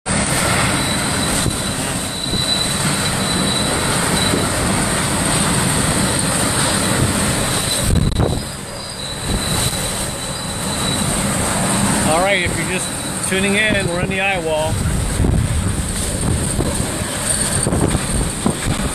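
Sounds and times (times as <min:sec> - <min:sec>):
hurricane winds roaring: 0:00.1 - 0:18.9.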